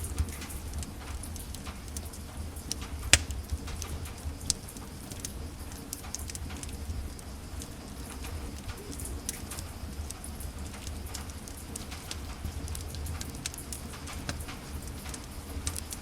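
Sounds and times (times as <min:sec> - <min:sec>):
low rumble of flames: 0:00.1 - 0:16.0
wood fire crackling: 0:00.1 - 0:16.0.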